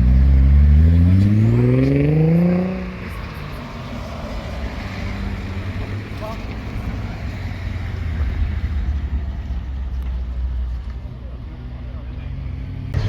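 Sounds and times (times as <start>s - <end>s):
car engine accelerating: 0.0s - 10.8s, 12.1s - 13.0s
outdoor background noise: 0.0s - 13.0s.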